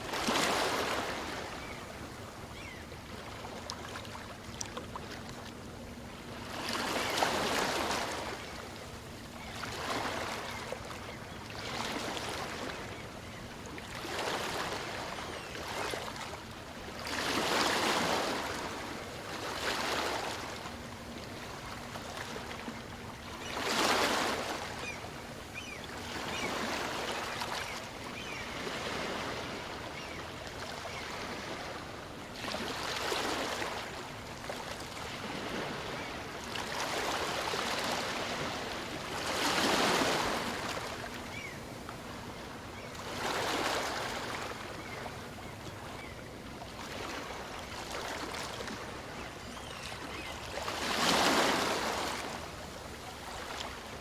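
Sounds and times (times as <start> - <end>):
small waves breaking on beach: 0.0 - 5.2, 6.2 - 8.7, 13.8 - 22.7, 23.3 - 25.0, 25.6 - 54.0.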